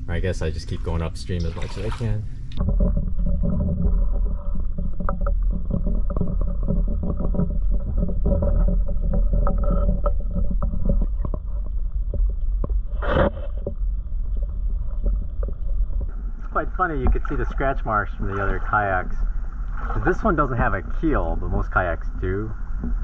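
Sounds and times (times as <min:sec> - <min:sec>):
muffled underwater rumble: 0:00.0 - 0:23.0.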